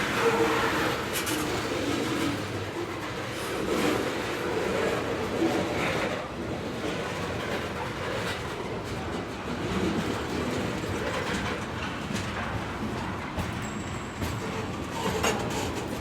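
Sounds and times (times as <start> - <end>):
train cars clattering: 0.0 - 16.0
train wheels rumbling on rails: 0.0 - 16.0.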